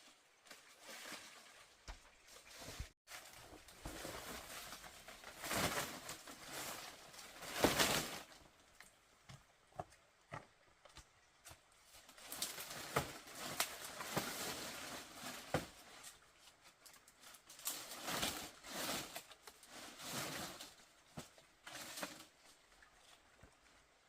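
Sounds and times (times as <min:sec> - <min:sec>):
rustling and scraping: 0:00.4 - 0:08.9, 0:11.5 - 0:24.0.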